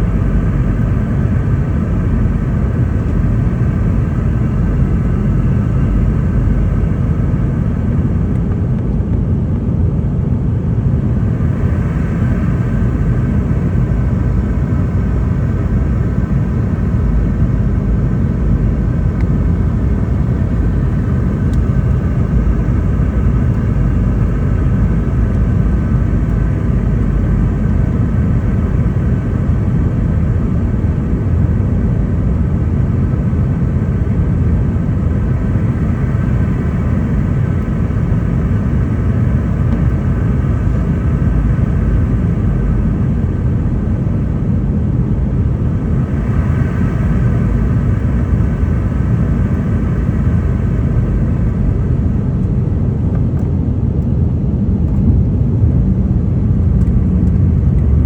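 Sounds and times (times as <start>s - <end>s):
faint whining tones: 0.0s - 53.6s
airplane cabin rumble: 0.0s - 58.0s.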